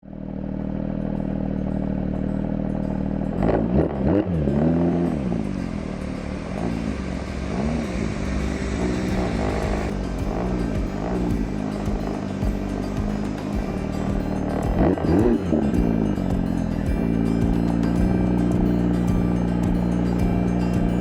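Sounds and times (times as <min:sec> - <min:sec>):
sports car engine revving: 0:00.1 - 0:21.0.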